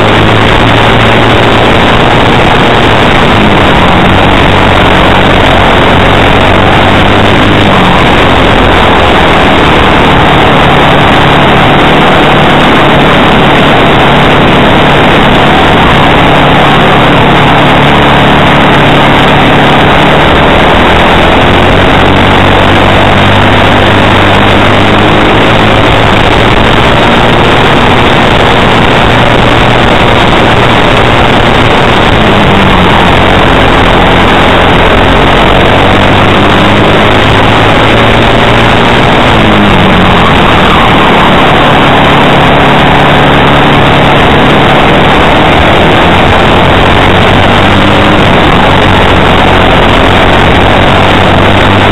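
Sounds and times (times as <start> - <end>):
racing kart engine: 0.0 - 51.9.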